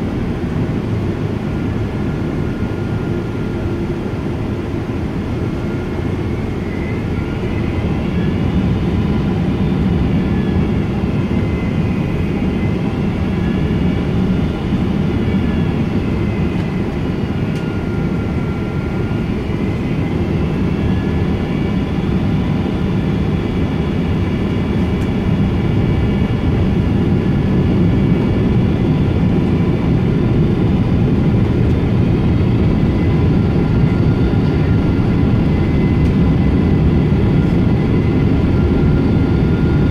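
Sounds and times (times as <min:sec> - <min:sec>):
aircraft engine and airflow rumble: 0:00.0 - 0:39.9.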